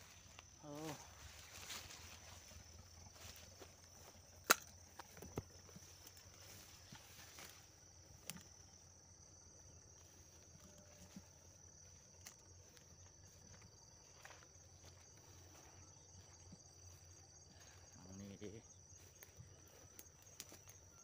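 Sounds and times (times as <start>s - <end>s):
faint footsteps: 0.0s - 8.9s, 9.7s - 18.0s, 18.8s - 21.0s
high-pitched insect trill: 0.0s - 21.0s.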